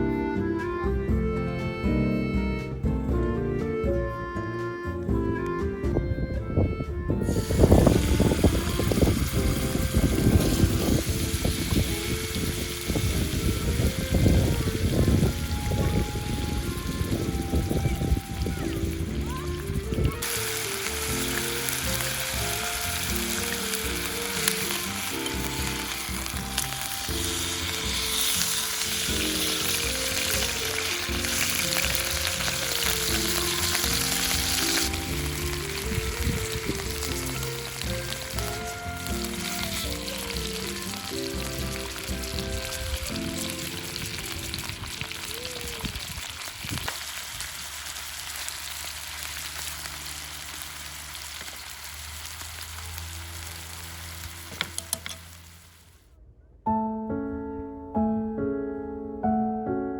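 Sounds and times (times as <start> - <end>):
background music: 0.0 - 45.6, 56.7 - 59.9
food sizzling in a hot pan: 7.3 - 56.0.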